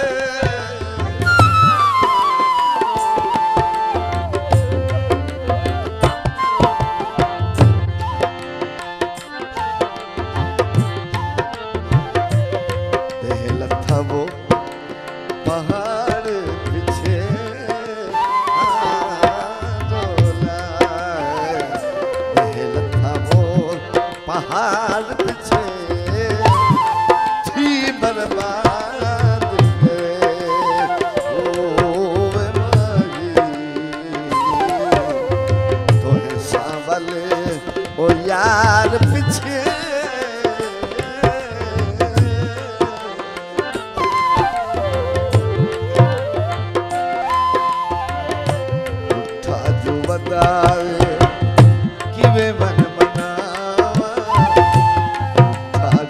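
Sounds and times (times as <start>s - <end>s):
man singing: 0.0s - 7.4s, 9.1s - 56.0s
tabla beat: 0.0s - 56.0s.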